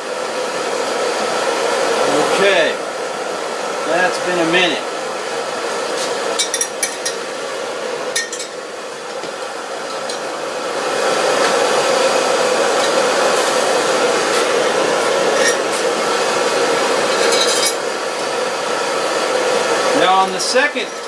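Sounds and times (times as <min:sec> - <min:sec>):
blower-like rushing noise: 0:00.0 - 0:21.0.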